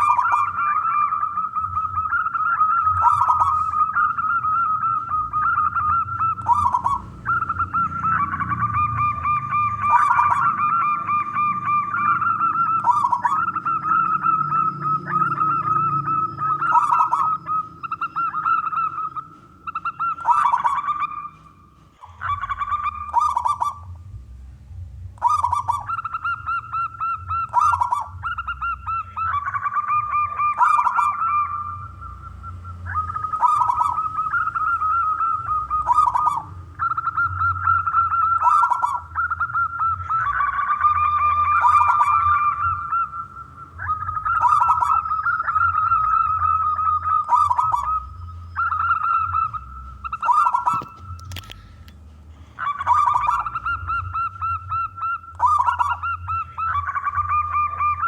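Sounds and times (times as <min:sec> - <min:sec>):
dove cooing: 0:00.0 - 0:24.4, 0:25.1 - 0:58.0.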